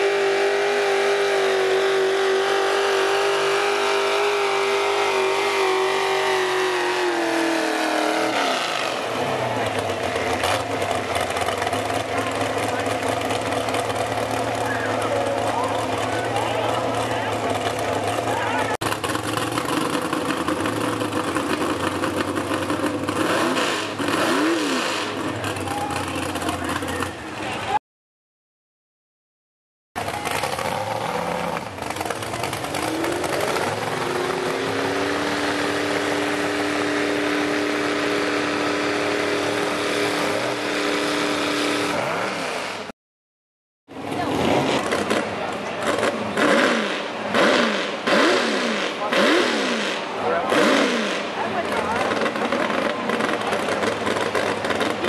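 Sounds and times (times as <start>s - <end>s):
truck engine revving: 0.0s - 27.8s, 30.0s - 42.9s, 44.0s - 55.0s.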